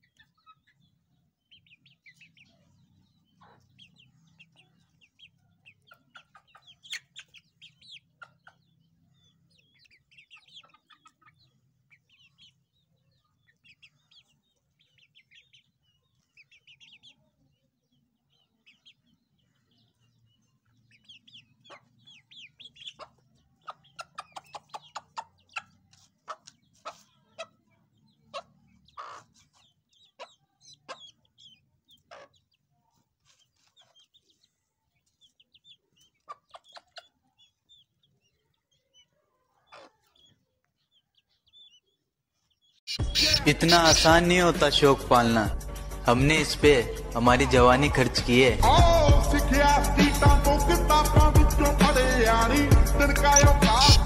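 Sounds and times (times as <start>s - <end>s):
francolins clucking: 0.0s - 17.6s, 18.3s - 47.4s, 48.0s - 54.0s.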